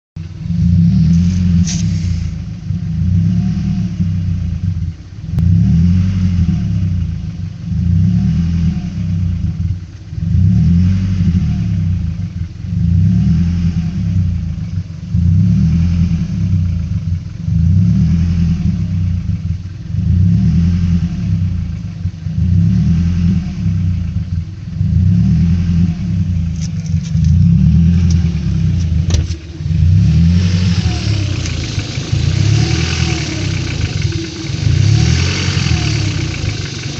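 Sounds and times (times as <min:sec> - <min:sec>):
car engine hunting at idle: 0:00.2 - 0:36.9.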